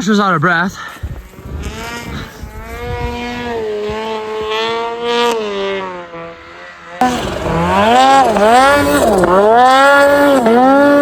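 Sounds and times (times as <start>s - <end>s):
snowmobile engine at high revs: 0.9s - 11.0s.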